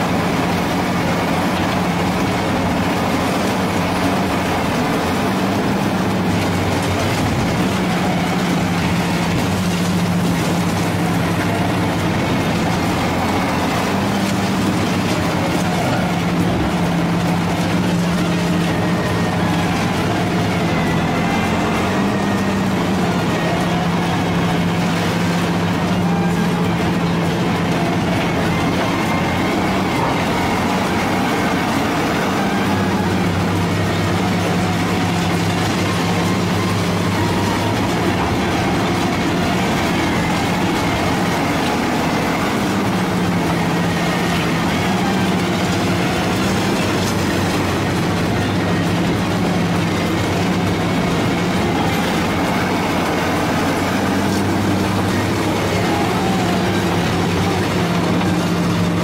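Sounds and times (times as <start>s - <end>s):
diesel engine hum: 0.0s - 59.0s.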